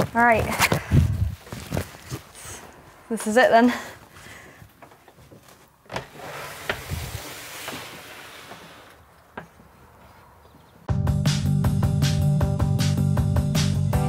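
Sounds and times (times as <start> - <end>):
outdoor noise: 0.0 - 11.9.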